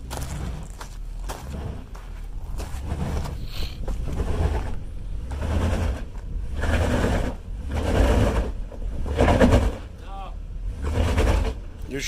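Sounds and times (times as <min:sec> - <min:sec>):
tyres scraping on rock: 0:00.0 - 0:09.9
car engine rumbling under load: 0:00.0 - 0:12.0.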